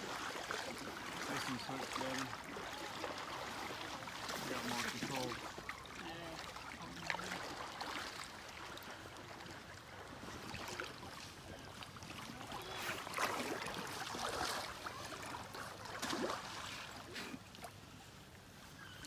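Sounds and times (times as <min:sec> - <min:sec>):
net splashing through water: 0:00.0 - 0:17.7
river water splashing: 0:00.0 - 0:19.0.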